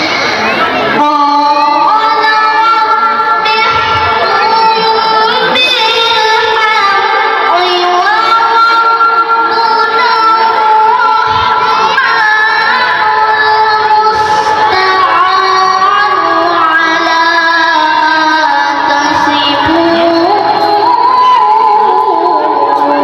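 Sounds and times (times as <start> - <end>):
boy reciting melodically: 0.0 - 23.0.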